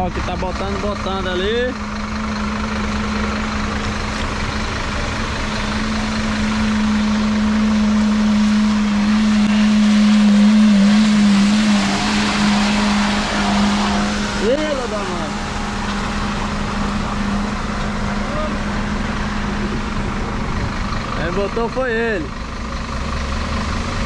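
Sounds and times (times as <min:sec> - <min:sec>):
low engine hum: 0:00.0 - 0:24.0
truck driving past: 0:00.0 - 0:24.0.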